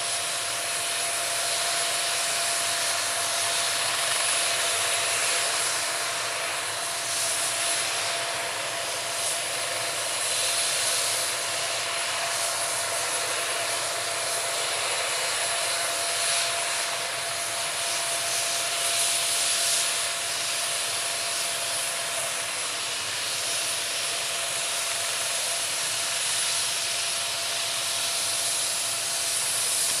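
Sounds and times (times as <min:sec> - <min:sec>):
helicopter running steadily: 0:00.0 - 0:30.0.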